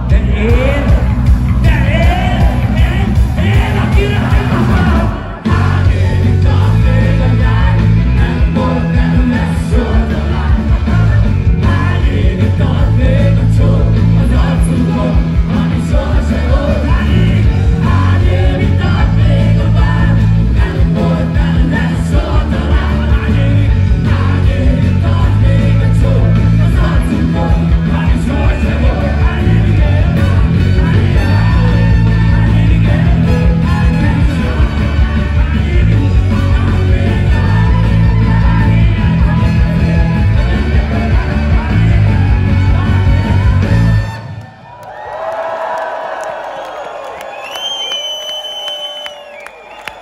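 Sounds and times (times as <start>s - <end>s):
person singing: 0.0s - 44.1s
live rock band playing: 0.0s - 44.4s.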